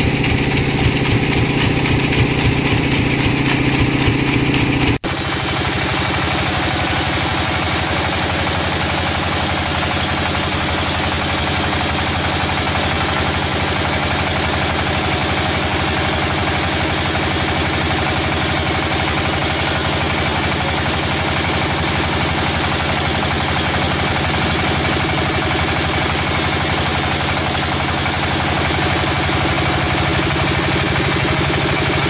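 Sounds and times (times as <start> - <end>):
machine engine running steadily: 0.0 - 32.0.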